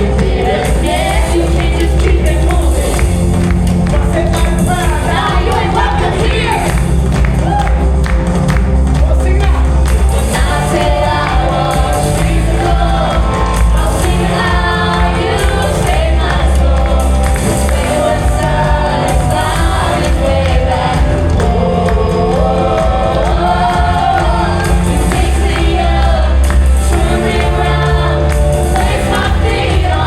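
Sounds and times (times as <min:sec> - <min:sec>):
gospel band with singers: 0:00.0 - 0:30.0.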